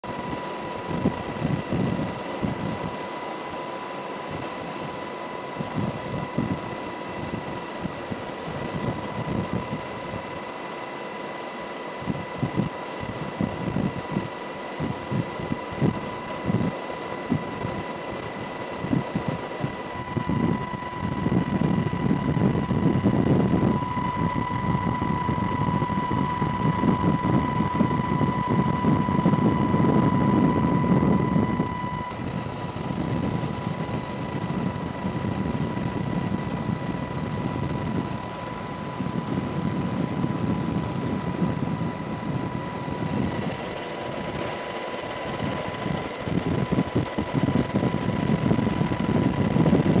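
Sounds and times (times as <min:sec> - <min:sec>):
constant high whine: 0:00.0 - 0:50.0
helicopter rotor and engine: 0:00.0 - 0:50.0.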